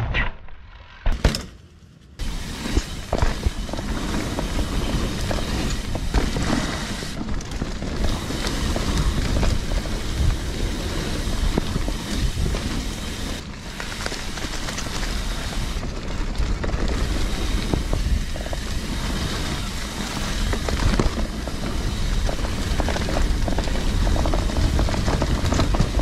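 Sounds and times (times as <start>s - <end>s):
bike knocks and rattles: 2.2s - 26.0s
wind rumble on microphone: 2.2s - 26.0s.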